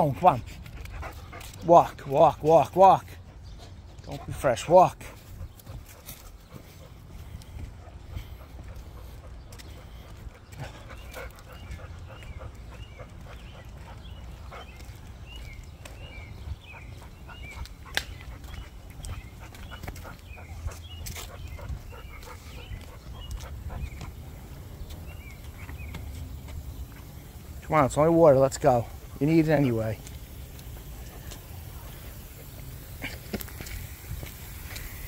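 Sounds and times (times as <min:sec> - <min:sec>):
dog panting: 0:00.0 - 0:35.0.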